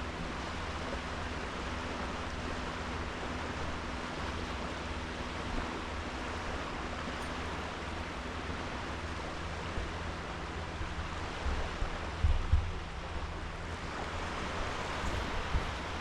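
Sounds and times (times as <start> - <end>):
sea waves washing on beach: 0.0 - 16.0
wind rumble on microphone: 0.0 - 16.0.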